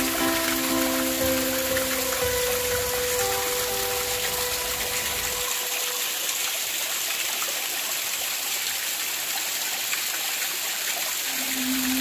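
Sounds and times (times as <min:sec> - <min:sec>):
waterfall splashing on rock: 0:00.0 - 0:12.0.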